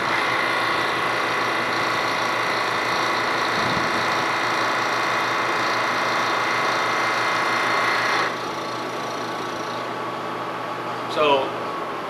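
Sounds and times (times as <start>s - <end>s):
milling machine cutting whine: 0.0s - 10.0s.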